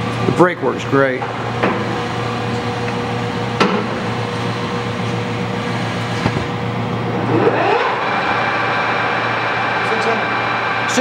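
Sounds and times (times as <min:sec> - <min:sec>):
lathe motor hum: 0:00.0 - 0:11.0
lathe spindle whine: 0:01.4 - 0:11.0.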